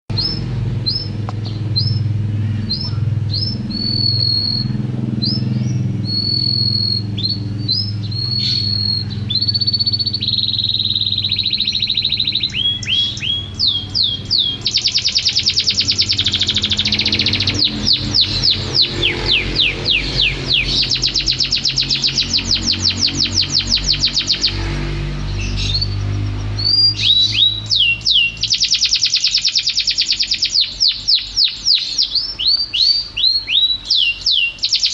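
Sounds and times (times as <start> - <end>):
canary singing: 0.1 - 34.9.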